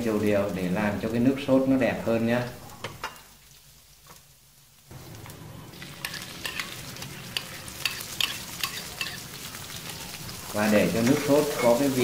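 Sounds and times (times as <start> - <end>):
tomato sizzling in hot oil: 0.0 - 12.0.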